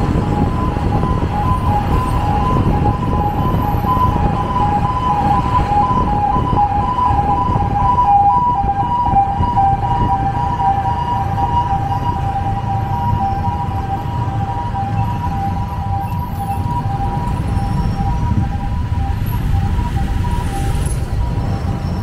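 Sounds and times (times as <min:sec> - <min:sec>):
motorcycle road and engine noise: 0:00.0 - 0:22.0.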